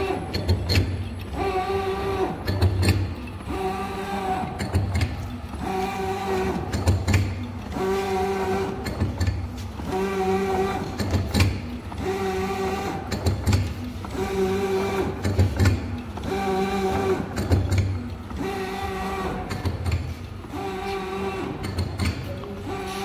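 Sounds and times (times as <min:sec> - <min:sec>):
machine clicks: 0:00.0 - 0:01.5, 0:02.4 - 0:10.0, 0:10.6 - 0:20.6, 0:21.4 - 0:23.0
machine motor whine: 0:00.0 - 0:23.0.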